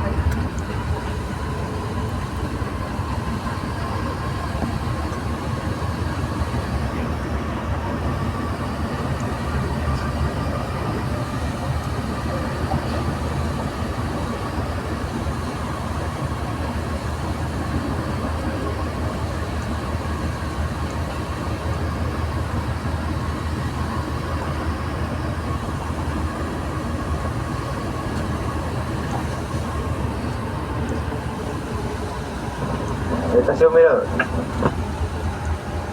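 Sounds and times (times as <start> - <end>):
metro train rumbling with whine: 0.0 - 35.9.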